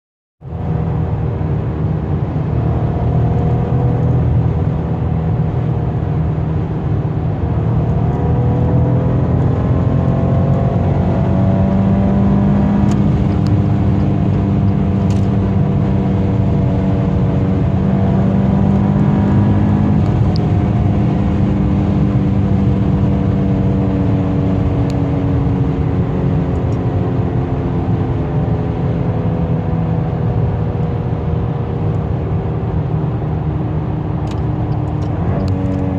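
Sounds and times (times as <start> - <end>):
car engine droning at speed: 0.4 - 35.9.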